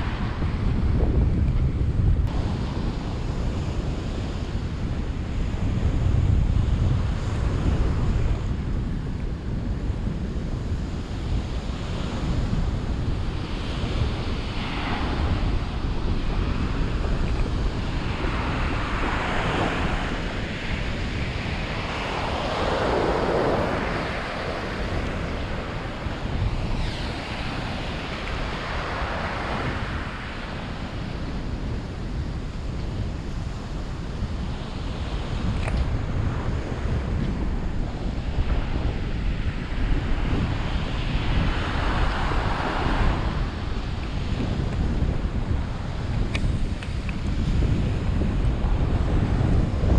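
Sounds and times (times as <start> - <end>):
sea waves washing ashore: 0.0 - 49.9
wind buffeting microphone: 0.0 - 49.9.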